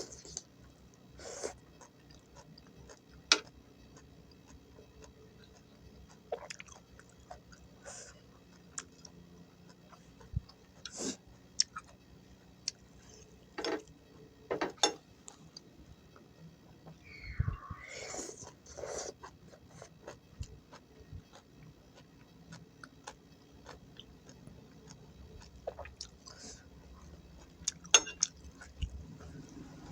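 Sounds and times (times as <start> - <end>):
chewing and crunching vegetables: 0.0 - 17.0, 18.2 - 29.9.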